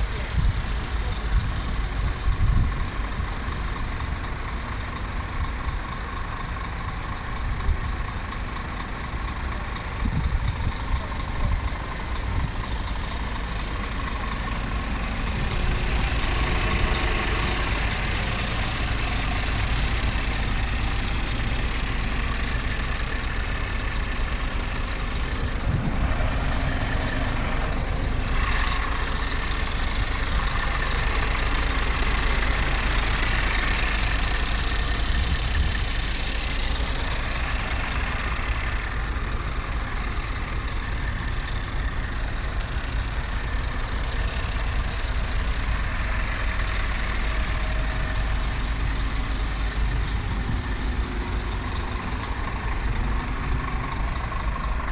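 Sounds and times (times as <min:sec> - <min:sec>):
truck diesel engine idling: 0:00.0 - 0:54.9.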